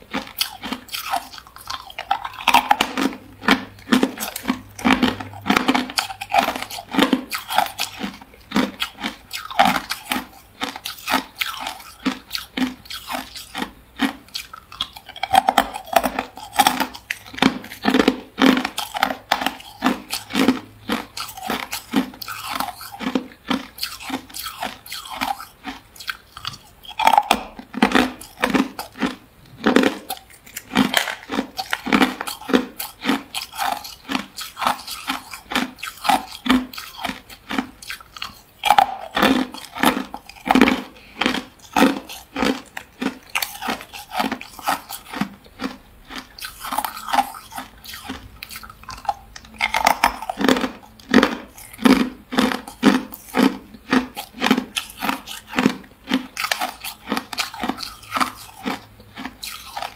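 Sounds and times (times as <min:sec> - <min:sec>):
person crunching ice cubes: 0:00.0 - 0:59.9.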